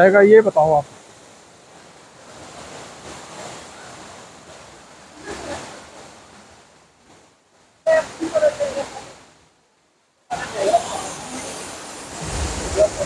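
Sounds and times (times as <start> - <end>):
waterfall rushing: 0.0 - 6.6, 7.9 - 9.4, 10.3 - 13.0.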